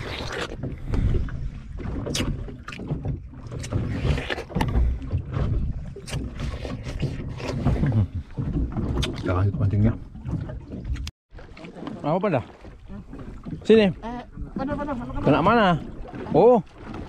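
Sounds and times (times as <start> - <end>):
boat engine low rumble: 0.0 - 17.0
water slapping against hull: 0.0 - 17.0.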